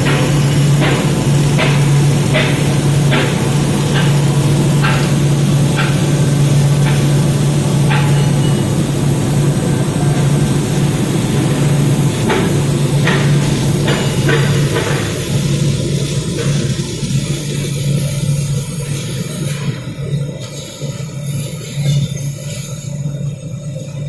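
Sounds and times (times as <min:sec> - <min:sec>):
welding equipment humming: 0:00.0 - 0:24.0.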